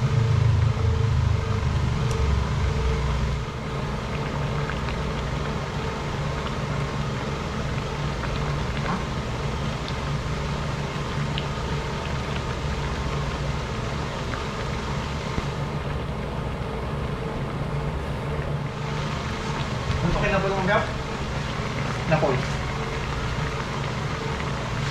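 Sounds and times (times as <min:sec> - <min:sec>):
low mechanical hum: 0:00.0 - 0:24.9.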